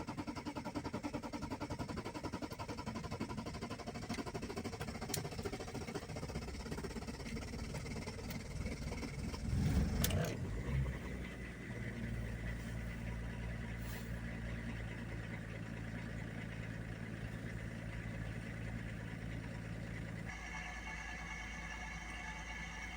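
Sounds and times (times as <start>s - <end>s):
diesel engine cold starting: 0.0s - 22.9s.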